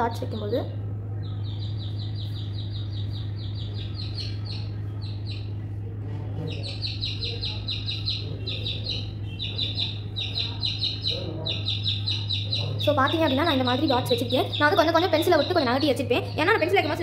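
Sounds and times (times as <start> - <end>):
low hum: 0.0 - 17.0
small bird chirping: 0.2 - 5.6, 6.3 - 17.0.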